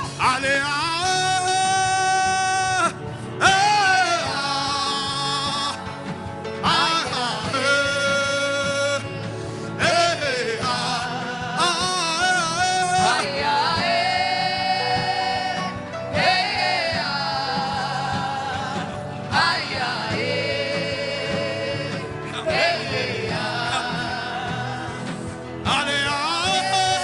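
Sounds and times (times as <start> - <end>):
instrumental accompaniment: 0.0 - 27.0.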